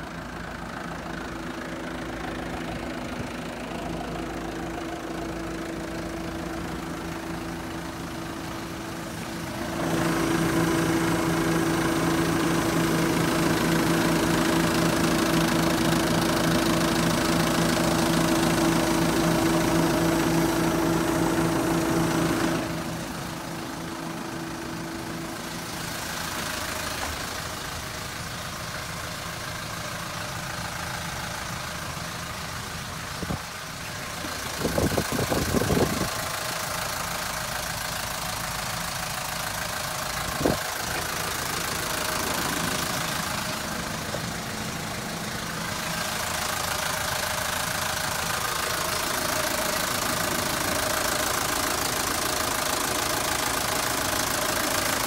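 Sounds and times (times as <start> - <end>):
diesel bus engine idling: 0.0 - 55.0.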